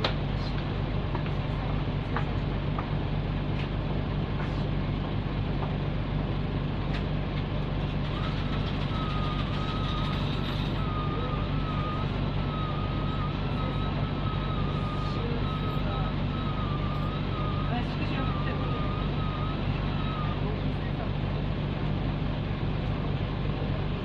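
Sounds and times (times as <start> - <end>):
bus diesel engine drone: 0.0 - 24.0.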